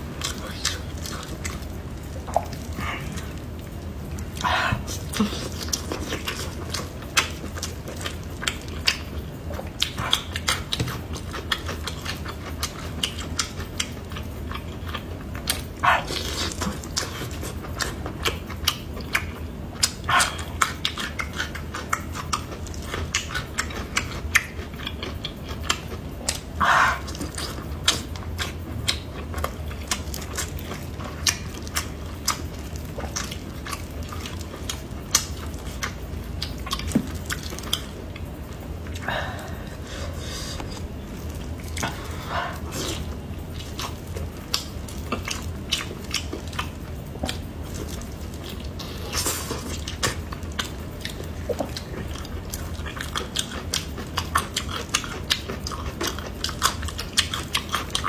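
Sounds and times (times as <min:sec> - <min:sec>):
wet sticky chewing: 0:00.0 - 0:58.0.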